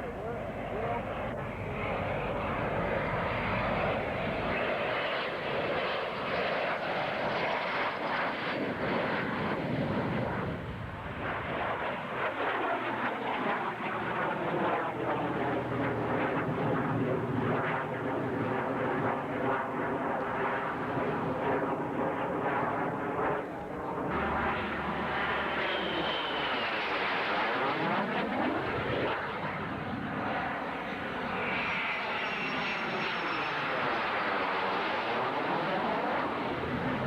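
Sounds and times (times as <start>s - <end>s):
propeller airplane engine droning: 0.0s - 37.0s.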